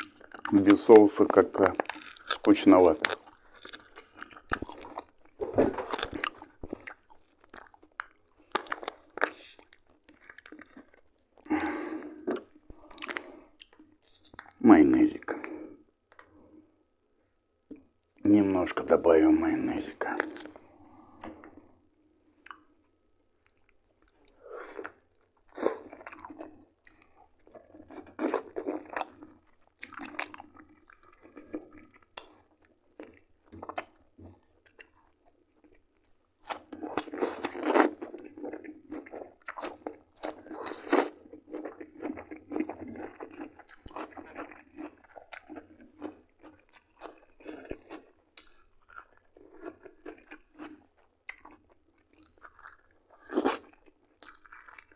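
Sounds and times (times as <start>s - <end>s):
person crunching and chewing food: 0.0s - 16.5s, 18.9s - 54.9s.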